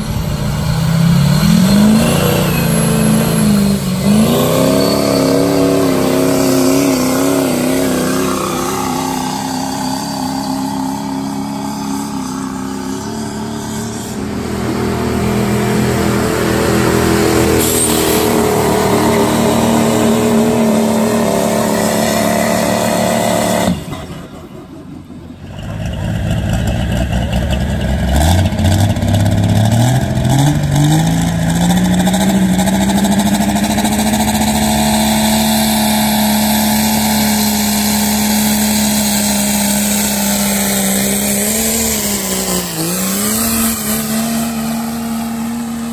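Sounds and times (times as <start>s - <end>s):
truck engine revving: 0.0s - 45.9s
truck engines running hard: 0.0s - 45.9s.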